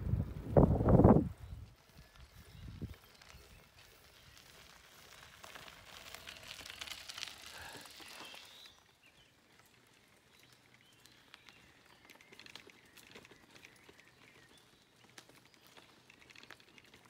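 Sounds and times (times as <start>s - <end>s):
bicycle tyres crunching on gravel: 0.3s - 17.0s.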